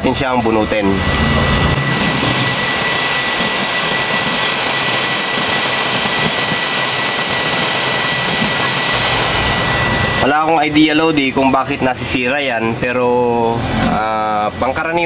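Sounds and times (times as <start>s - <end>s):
hot air station hissing: 0.0s - 15.0s.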